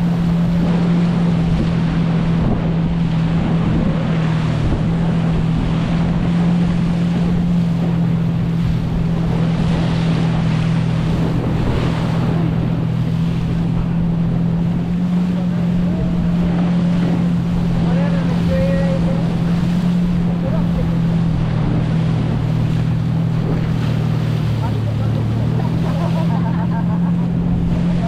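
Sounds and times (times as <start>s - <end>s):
wind on microphone: 0.0s - 26.3s
motorboat engine droning: 0.0s - 28.0s
rushing water: 0.0s - 28.0s.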